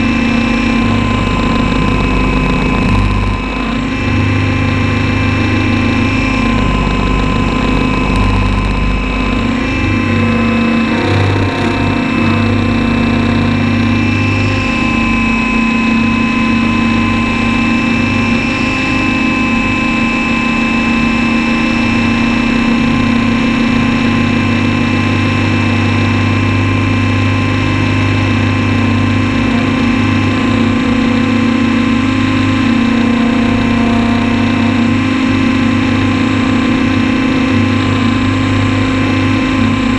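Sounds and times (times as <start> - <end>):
model helicopter motor and rotor: 0.0 - 39.9.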